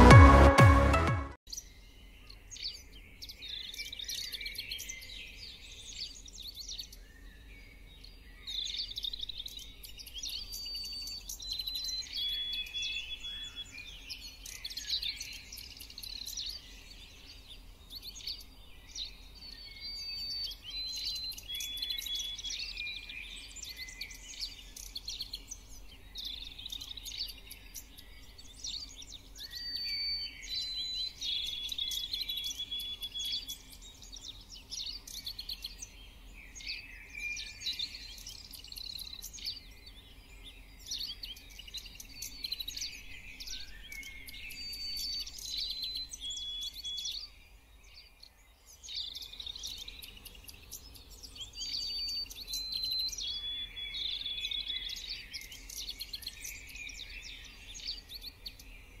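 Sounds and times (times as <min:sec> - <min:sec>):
birds chirping and singing: 0:01.5 - 0:59.0.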